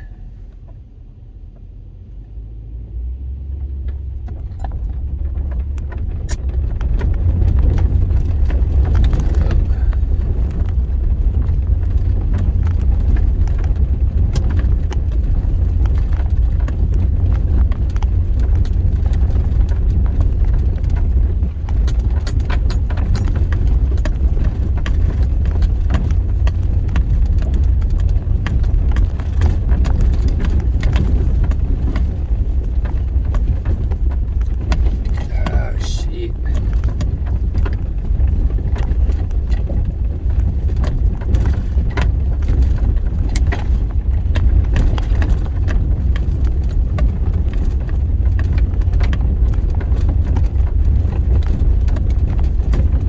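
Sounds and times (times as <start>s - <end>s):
vehicle rumbling over dirt road: 0.0s - 53.0s
rattles and knocks: 3.6s - 53.0s.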